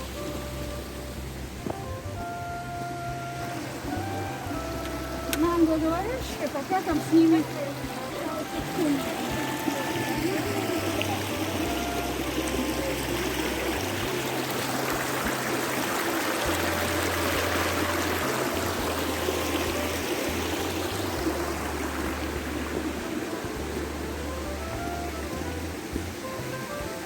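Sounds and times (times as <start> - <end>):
background music: 0.0 - 27.0
stream water rushing: 0.0 - 27.0.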